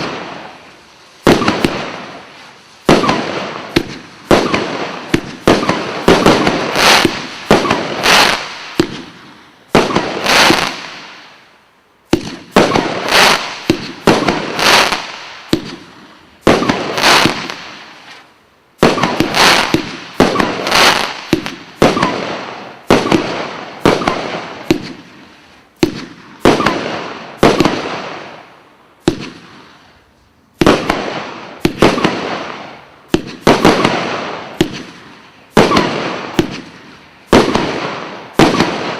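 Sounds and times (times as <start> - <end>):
firework bangs and crackle: 0.0 - 38.9.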